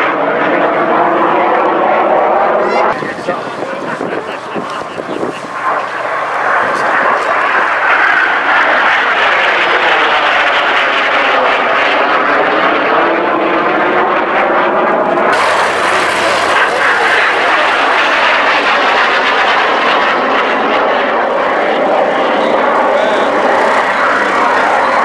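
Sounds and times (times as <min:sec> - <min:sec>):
jet aircraft engine overhead: 0:00.0 - 0:25.0.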